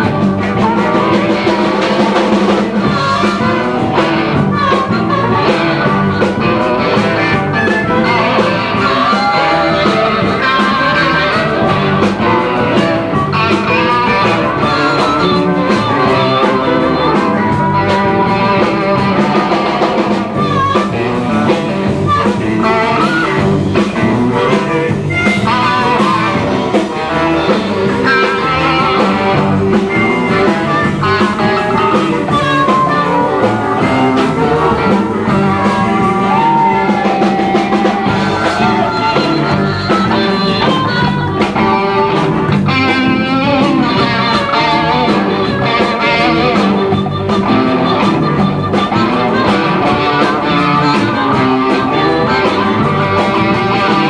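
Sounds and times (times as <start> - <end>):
blues-rock band playing: 0.0 - 54.0
electric guitar lines: 0.0 - 54.0.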